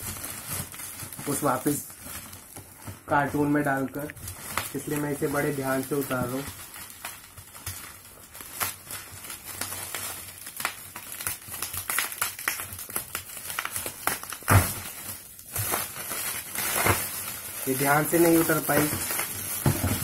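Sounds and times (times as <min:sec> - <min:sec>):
bubble wrap rustling and crinkling: 0:00.0 - 0:20.0.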